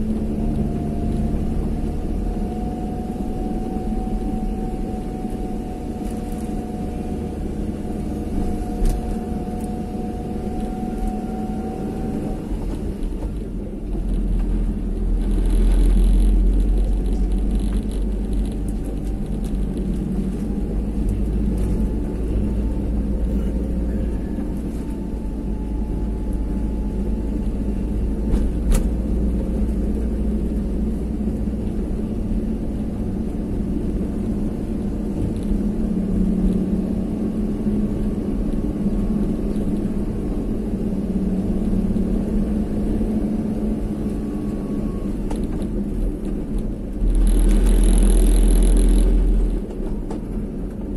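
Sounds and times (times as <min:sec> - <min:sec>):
vehicle engine and road rumble: 0:00.0 - 0:50.9.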